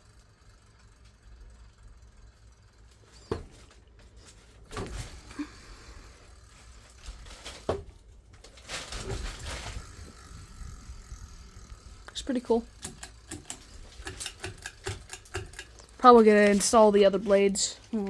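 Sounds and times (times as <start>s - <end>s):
rustling and scraping: 2.3s - 18.0s.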